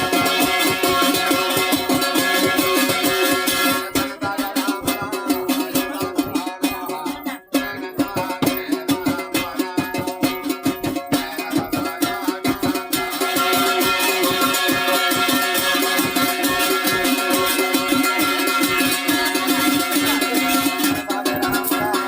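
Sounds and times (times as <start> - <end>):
folk music with plucked strings: 0.0 - 22.0.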